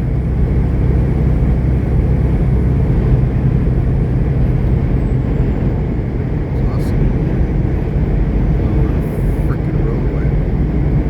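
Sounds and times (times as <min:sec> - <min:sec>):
road noise inside cab: 0:00.0 - 0:11.0
truck engine drone: 0:00.0 - 0:11.0.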